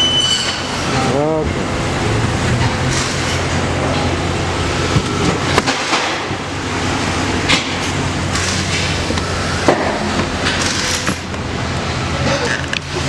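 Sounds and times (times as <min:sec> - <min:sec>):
road noise hiss: 0:00.0 - 0:13.0
truck engine humming: 0:00.0 - 0:13.0.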